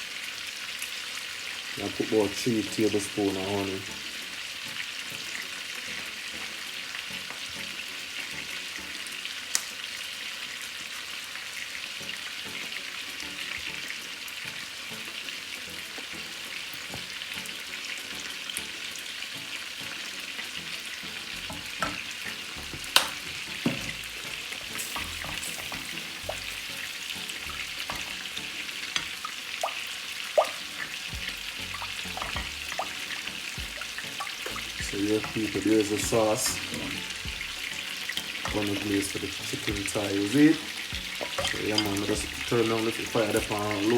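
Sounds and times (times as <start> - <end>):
sauce sizzling in a pot: 0.0 - 43.9.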